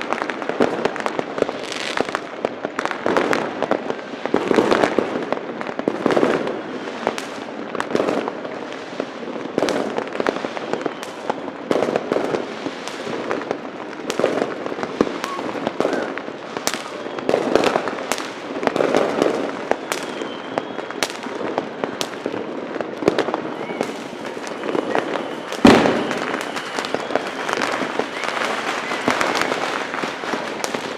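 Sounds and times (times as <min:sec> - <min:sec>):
distant fireworks bursting: 0:00.0 - 0:30.9
firework bangs: 0:00.0 - 0:30.9.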